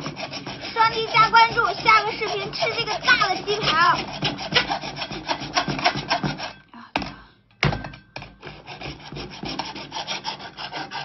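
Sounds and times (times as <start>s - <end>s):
hand saw rasping through shell: 0.0s - 6.6s, 8.3s - 11.0s.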